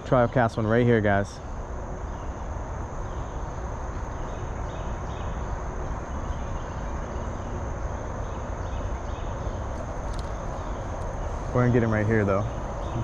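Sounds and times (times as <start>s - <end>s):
faint chirps: 0.0s - 13.0s
insects droning: 0.0s - 13.0s.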